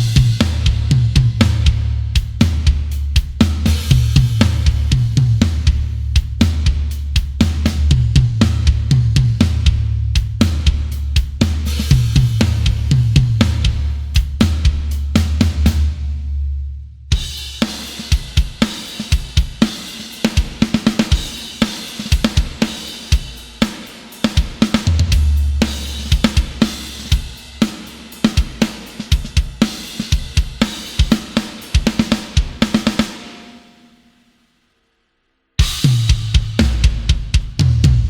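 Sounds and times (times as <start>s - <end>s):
metal drum kit pattern: 0.0s - 34.1s, 35.6s - 38.0s.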